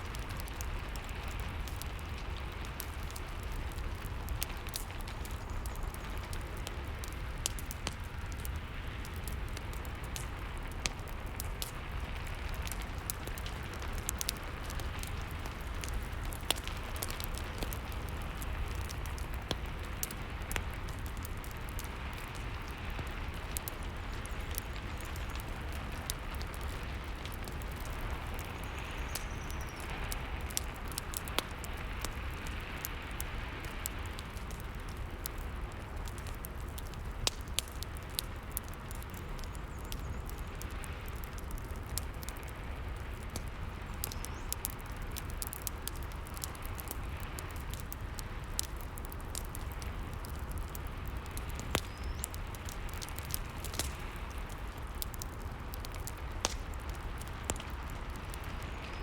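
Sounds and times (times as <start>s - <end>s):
burning wood crackling: 0.0s - 59.0s
steady rain hiss: 0.0s - 59.0s.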